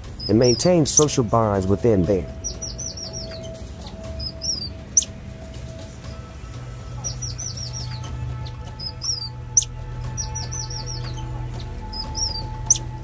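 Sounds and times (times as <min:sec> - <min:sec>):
background music drone: 0:00.0 - 0:13.0
high-pitched chirping: 0:00.0 - 0:13.0.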